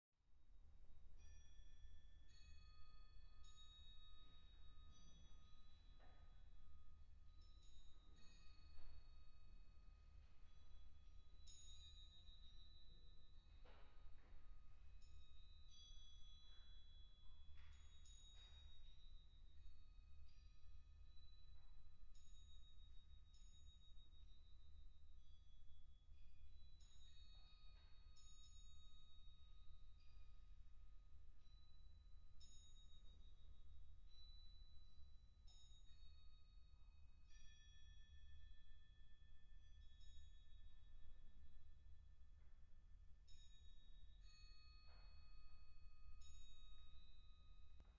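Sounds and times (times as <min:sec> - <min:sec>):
bell-like metal percussion tones: 0:00.9 - 0:47.9.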